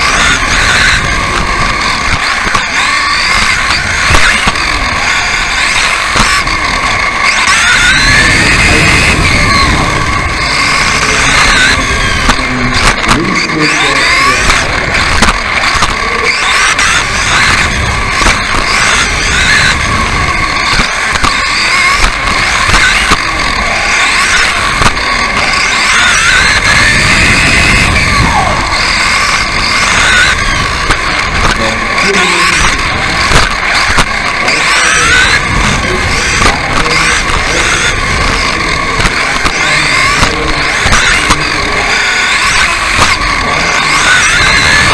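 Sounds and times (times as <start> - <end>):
drivetrain and rushing noise: 0.0 - 44.9
sharp knocks from landings: 0.0 - 44.9
toy car motor whine: 0.0 - 44.9
tyres rumbling on dirt: 0.0 - 44.9.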